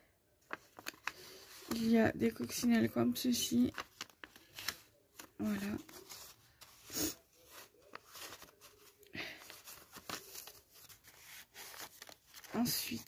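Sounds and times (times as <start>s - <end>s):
paper rustling and sliding: 0.5s - 2.6s, 3.7s - 13.0s.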